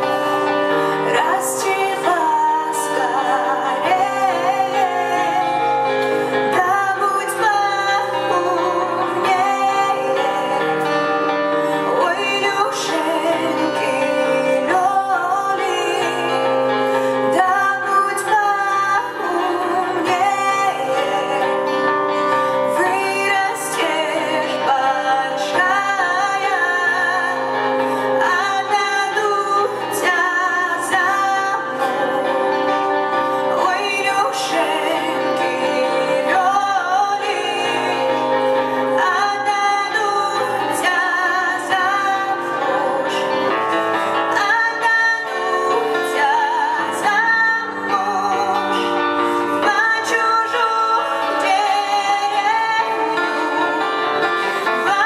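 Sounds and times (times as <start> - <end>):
instrumental accompaniment: 0.0 - 55.0
woman singing: 0.0 - 55.0.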